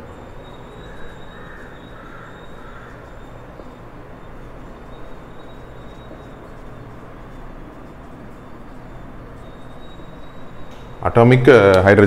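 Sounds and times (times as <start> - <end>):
faint high whine: 0.0 - 12.0
low hum: 0.0 - 12.0
marker squeaking on whiteboard: 0.5 - 11.0.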